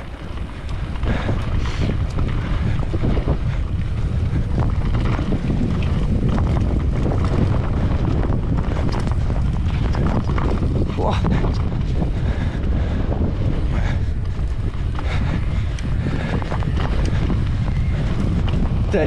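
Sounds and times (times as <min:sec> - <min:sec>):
bike rattling over bumps: 0:00.0 - 0:19.0
knobby tyres rolling on dirt: 0:00.0 - 0:19.0
wind buffeting microphone: 0:00.0 - 0:19.0.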